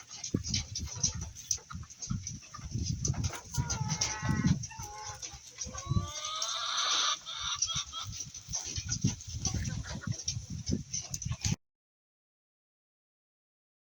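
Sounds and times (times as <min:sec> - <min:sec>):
poultry pecking at corn: 0:00.0 - 0:11.5
farm birds calling: 0:00.0 - 0:11.6.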